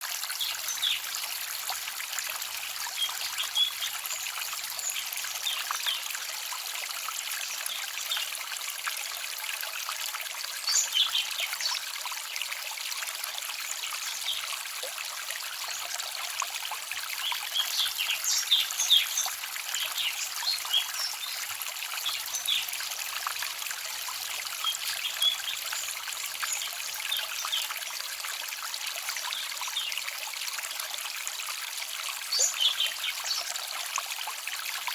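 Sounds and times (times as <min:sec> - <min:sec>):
stream trickling over stones: 0:00.0 - 0:34.9.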